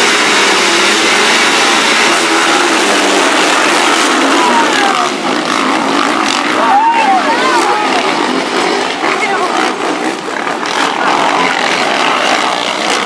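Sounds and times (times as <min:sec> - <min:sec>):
loud steady rushing noise: 0:00.0 - 0:13.0
motocross bike engines revving: 0:00.0 - 0:13.0.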